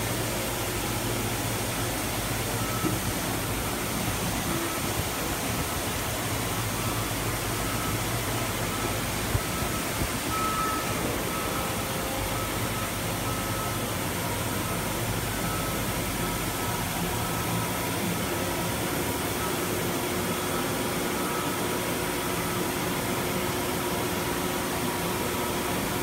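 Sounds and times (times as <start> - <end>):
factory low hum and hiss: 0.0 - 26.0.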